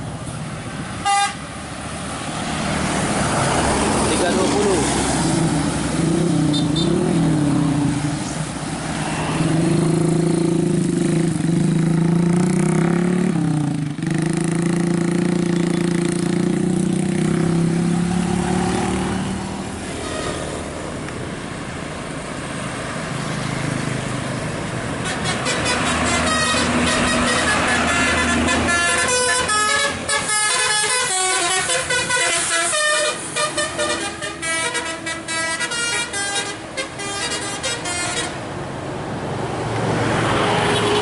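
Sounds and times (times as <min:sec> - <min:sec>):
bus passing with droning engine: 0:00.0 - 0:41.0
road noise: 0:00.0 - 0:41.0.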